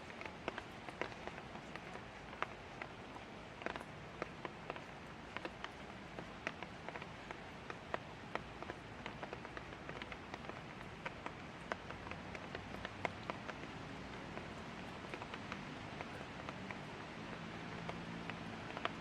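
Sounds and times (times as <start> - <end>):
raindrops ticking on surface: 0.0 - 19.0.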